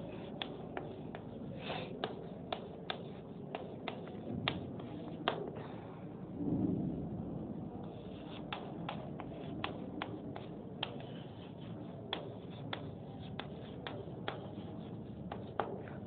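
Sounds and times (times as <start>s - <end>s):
chalk tapping on blackboard: 0.0s - 5.6s, 7.8s - 16.0s
low room noise: 0.0s - 16.0s.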